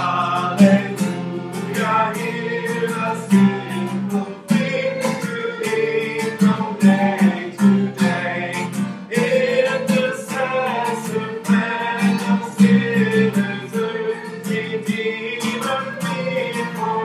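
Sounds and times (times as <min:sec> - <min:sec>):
person singing a worship song: 0:00.0 - 0:17.0
strummed acoustic guitar: 0:00.0 - 0:17.0.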